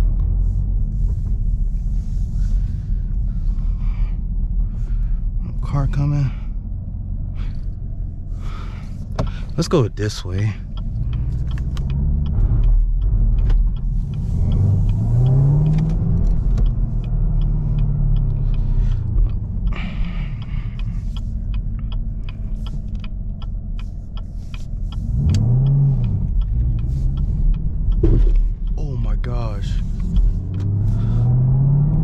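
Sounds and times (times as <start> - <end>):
car engine revving in cabin: 0.0 - 32.0.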